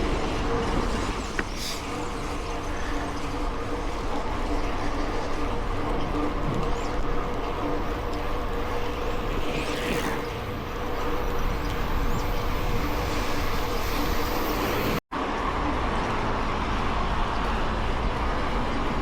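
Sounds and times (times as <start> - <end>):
bike tyres and drivetrain rolling: 0.0 - 19.0.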